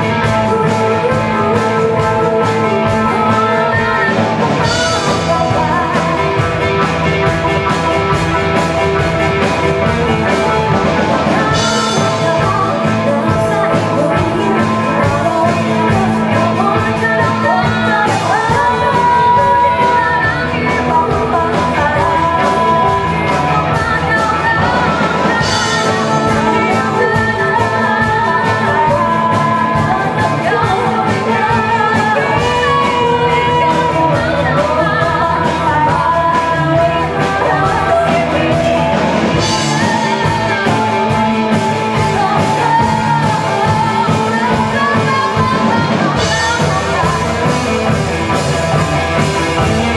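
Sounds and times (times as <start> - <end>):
drum: 0.0 - 49.9
live band playing: 0.0 - 49.9
person singing: 0.0 - 49.9.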